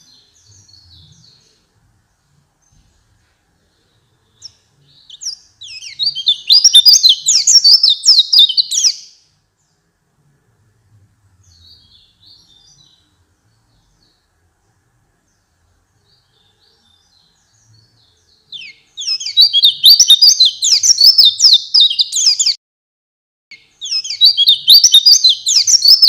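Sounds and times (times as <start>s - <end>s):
bird high twittering song: 0.0s - 9.9s, 11.4s - 22.6s, 23.5s - 26.0s
faint bird chirps: 0.0s - 9.9s, 11.4s - 22.6s, 23.5s - 26.0s.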